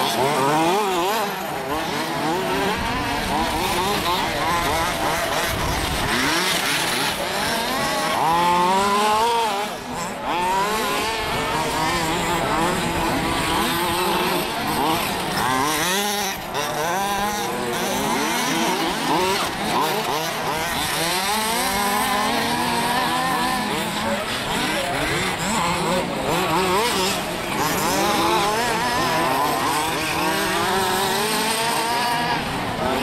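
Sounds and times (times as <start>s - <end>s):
small two-stroke engines revving: 0.0s - 33.0s.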